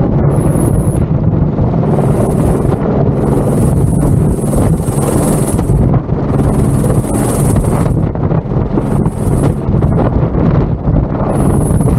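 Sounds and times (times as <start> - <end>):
helicopter rotor noise: 0.0 - 11.9
high turbine whine: 0.0 - 11.9
wind buffeting microphone: 0.0 - 11.9.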